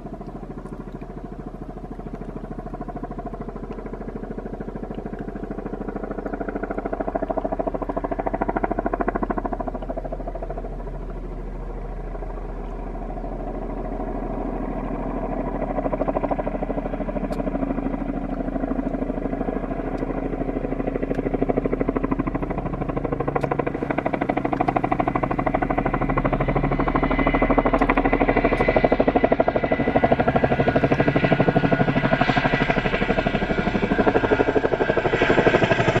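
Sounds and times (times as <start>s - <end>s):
helicopter rotors beating: 0.0s - 36.0s
helicopter turbine engines: 0.0s - 36.0s.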